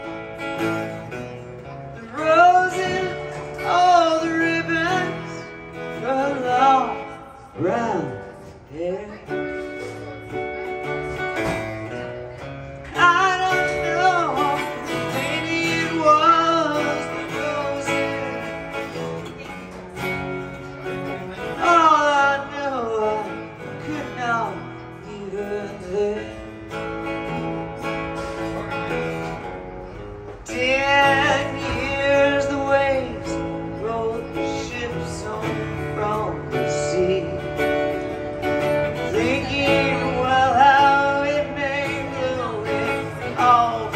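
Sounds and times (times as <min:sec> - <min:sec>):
acoustic guitar: 0:00.0 - 0:43.9
man singing: 0:00.0 - 0:43.9.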